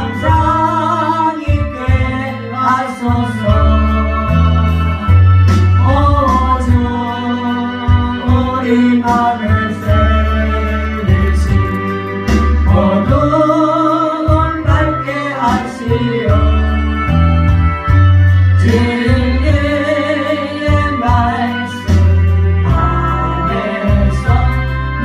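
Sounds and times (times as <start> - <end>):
gospel song with accompaniment: 0.0 - 25.0.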